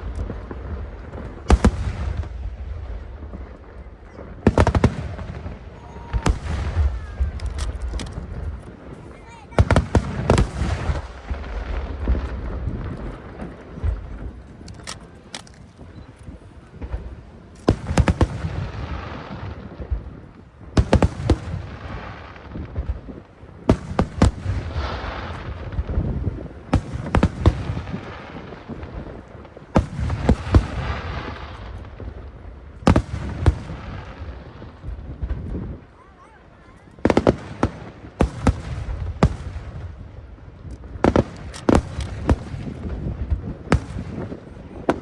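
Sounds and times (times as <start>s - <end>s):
fireworks bursting with crackle: 0.0s - 45.0s.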